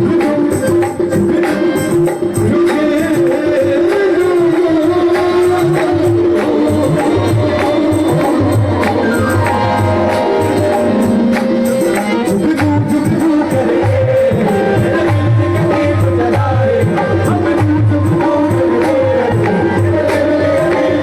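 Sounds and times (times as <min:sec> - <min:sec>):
hand percussion rhythm: 0:00.0 - 0:21.0
held melodic notes: 0:04.1 - 0:21.0.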